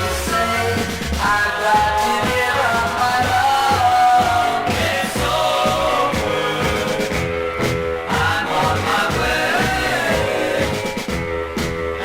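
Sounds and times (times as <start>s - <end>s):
pop record playing: 0.0s - 12.0s.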